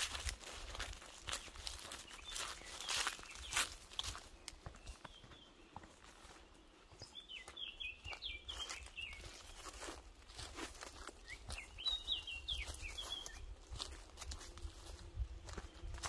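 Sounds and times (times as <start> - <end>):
footsteps on dirt path: 0.0 - 16.0
songbird twittering: 0.8 - 14.1.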